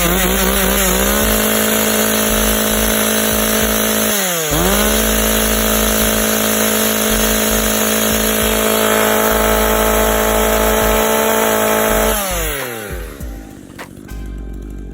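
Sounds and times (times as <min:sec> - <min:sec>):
chainsaw running and winding down: 0:00.0 - 0:14.9.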